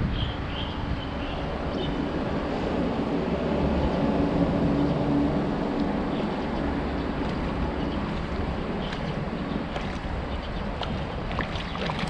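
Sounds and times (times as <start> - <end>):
highway traffic rumble: 0.0 - 12.0
passing vehicle hum: 1.4 - 12.0.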